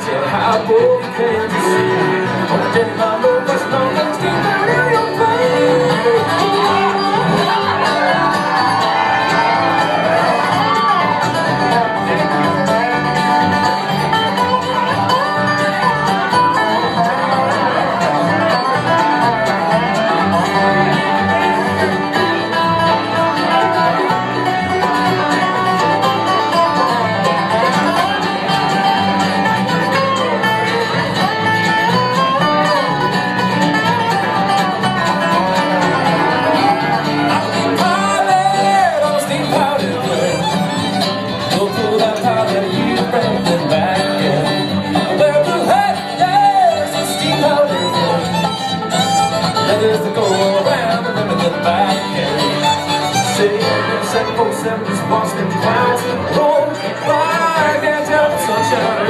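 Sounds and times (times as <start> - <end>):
acoustic guitar: 0.0 - 59.0
banjo: 0.0 - 59.0
fiddle: 0.0 - 59.0
upright bass: 0.0 - 59.0.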